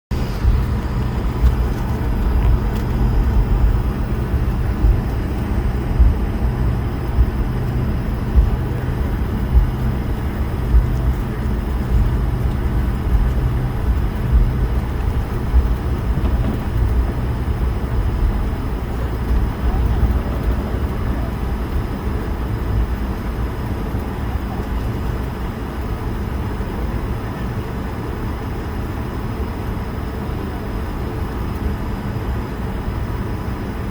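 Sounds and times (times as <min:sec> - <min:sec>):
jet engines rumbling: 0:00.0 - 0:33.9
faint whining tones: 0:00.1 - 0:27.6.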